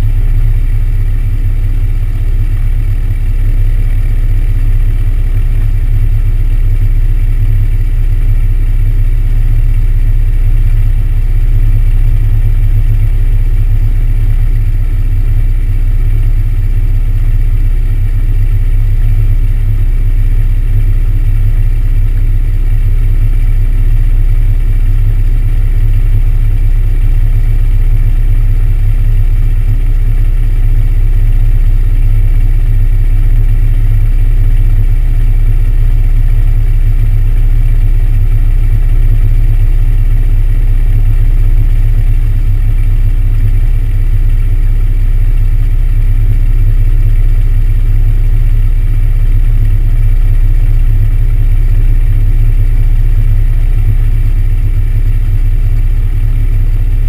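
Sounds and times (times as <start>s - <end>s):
aircraft propeller engine idling: 0.0s - 57.0s.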